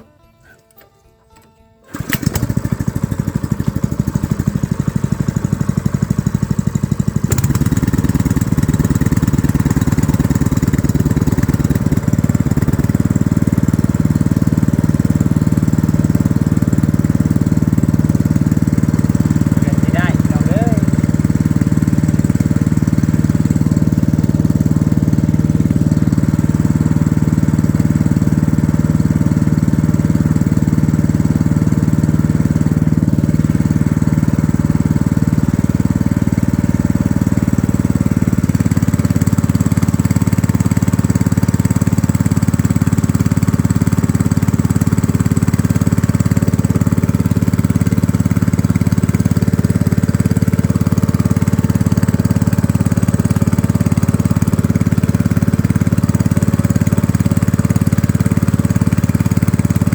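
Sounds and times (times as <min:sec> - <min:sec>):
small engine running: 0:01.9 - 0:59.9.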